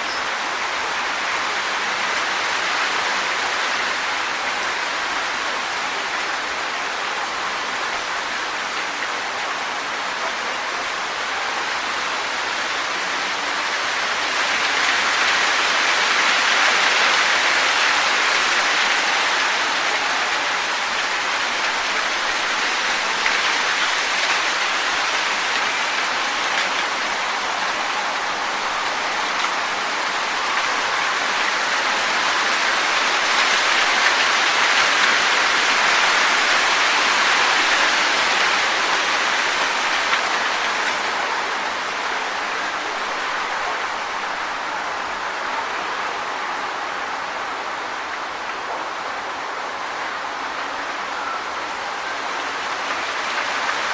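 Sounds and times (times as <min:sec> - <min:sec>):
wind blowing through trees: 0:00.0 - 0:53.9.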